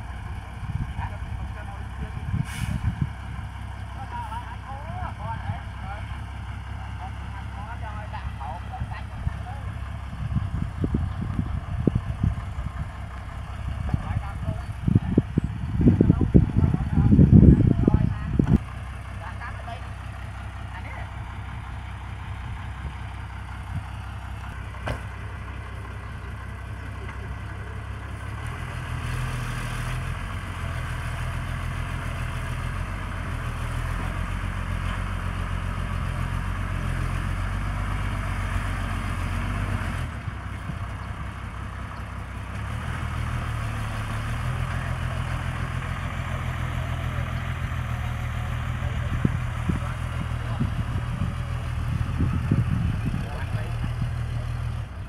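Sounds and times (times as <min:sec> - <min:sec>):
dump truck diesel engine: 0:00.0 - 0:55.0.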